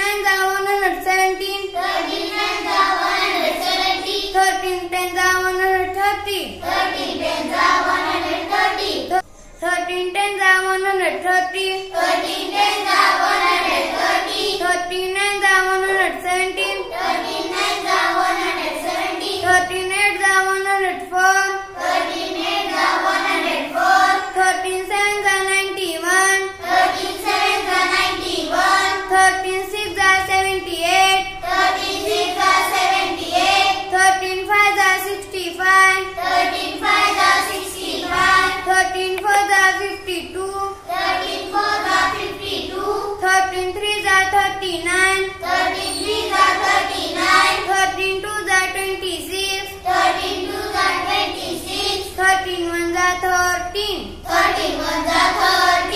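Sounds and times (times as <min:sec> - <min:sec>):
girl chanting sing-song: 0:00.0 - 0:55.9.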